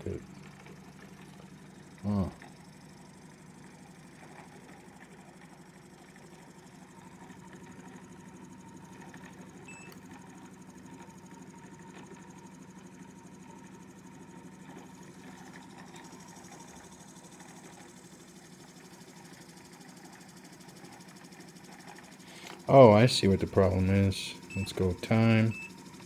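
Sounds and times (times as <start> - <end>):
pulse motor buzzing hum: 0.0 - 26.0.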